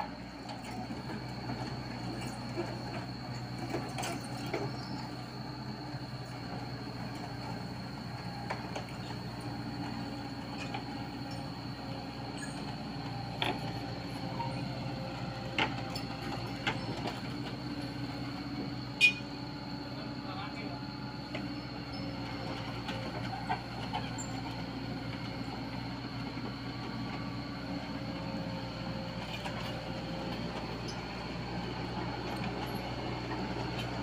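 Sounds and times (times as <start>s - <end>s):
excavator engine hum: 0.0s - 34.0s
crawler tracks clanking and squeaking: 0.2s - 19.4s, 20.1s - 34.0s.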